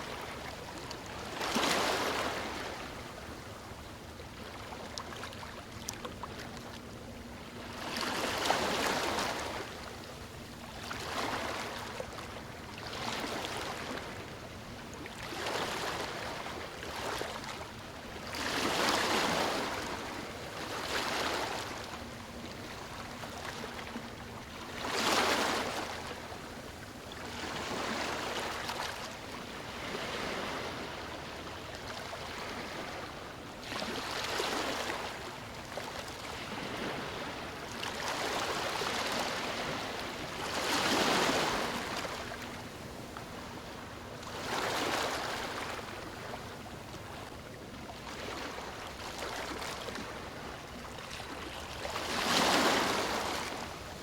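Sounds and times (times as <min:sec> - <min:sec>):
sea waves breaking: 0:00.0 - 0:03.2, 0:10.8 - 0:26.6, 0:27.3 - 0:54.0.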